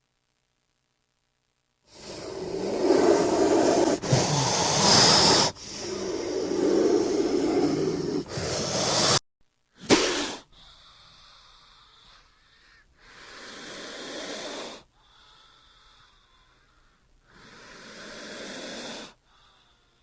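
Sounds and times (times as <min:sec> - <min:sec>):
cobra hissing: 0:01.9 - 0:09.2, 0:09.8 - 0:20.0.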